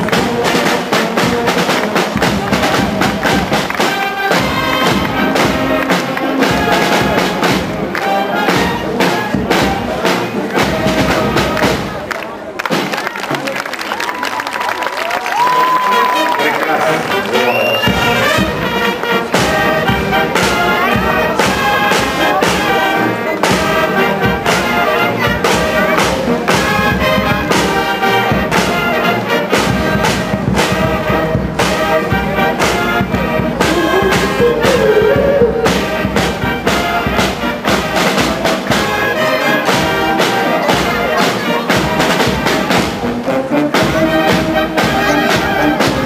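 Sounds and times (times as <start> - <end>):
steady drumbeat: 0.0 - 13.0, 17.8 - 46.0
marching brass band playing: 0.0 - 14.0, 15.0 - 46.0.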